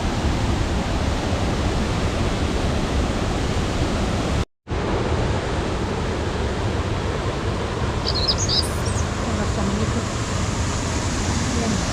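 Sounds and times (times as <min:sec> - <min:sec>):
waterfall rushing: 0:00.0 - 0:11.9.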